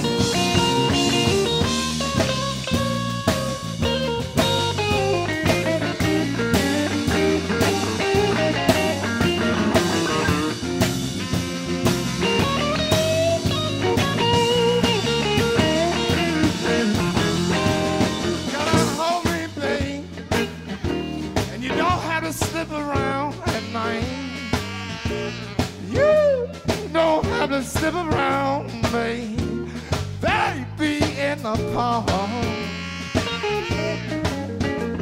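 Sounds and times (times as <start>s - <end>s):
electric guitar lead: 0.0s - 28.7s, 32.1s - 35.0s
bass: 0.0s - 35.0s
drum kit beat: 0.0s - 35.0s.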